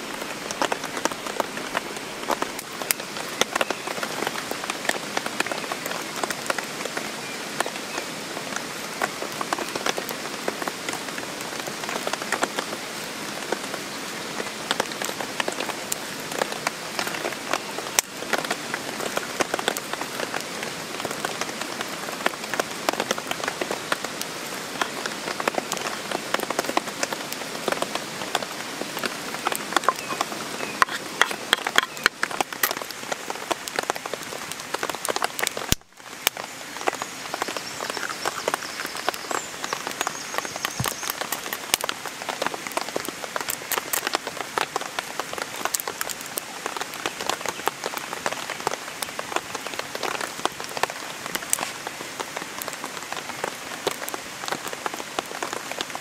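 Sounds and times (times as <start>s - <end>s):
steady rain falling: 0.0s - 56.0s
raindrop clicks: 0.1s - 7.0s, 14.7s - 56.0s.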